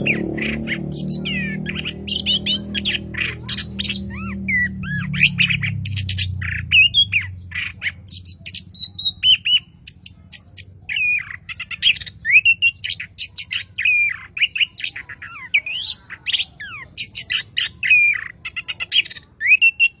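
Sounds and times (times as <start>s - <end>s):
thrush singing: 0.0s - 20.0s.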